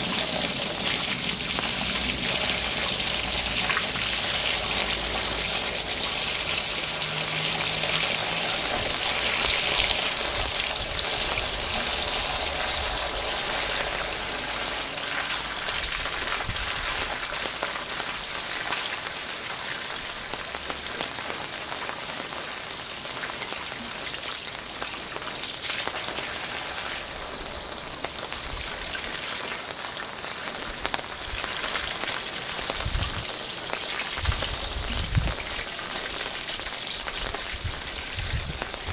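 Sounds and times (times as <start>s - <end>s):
rain on wet paving stones: 0.0s - 38.9s
water jet splashing on stones: 0.0s - 38.9s.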